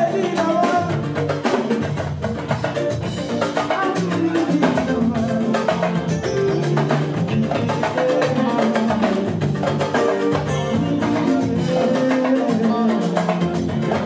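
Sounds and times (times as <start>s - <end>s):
hand drums rhythm: 0.0s - 14.0s
held keyboard notes: 0.0s - 14.0s.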